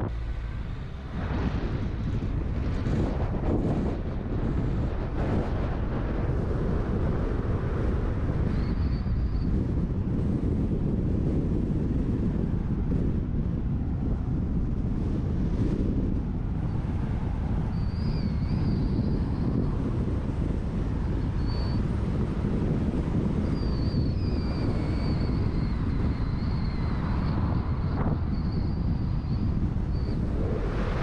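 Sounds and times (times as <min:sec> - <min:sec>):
car driving rumble: 0:00.0 - 0:31.0.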